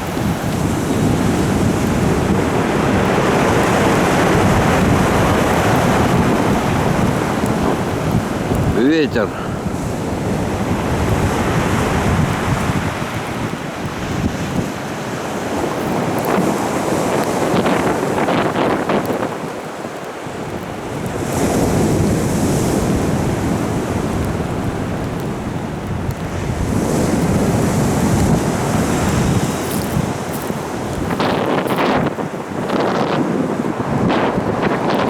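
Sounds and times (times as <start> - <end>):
wind buffeting microphone: 0.0 - 19.6, 20.2 - 35.0
waves breaking and rushing: 0.0 - 35.0.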